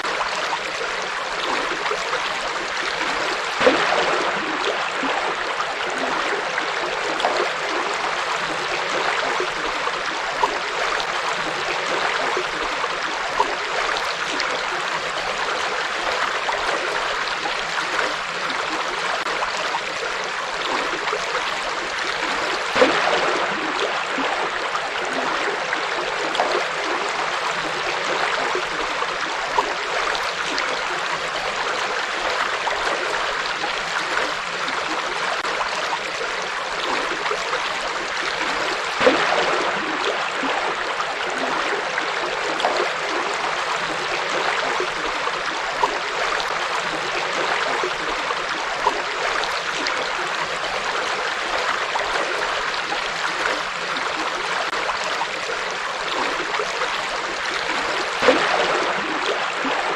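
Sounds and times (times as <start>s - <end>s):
river flowing over rocks: 0.0s - 59.9s
water splashes: 0.0s - 59.9s.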